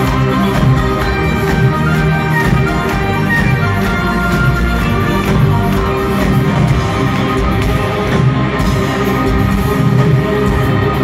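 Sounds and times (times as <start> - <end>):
heavy metal band playing: 0.0 - 11.0.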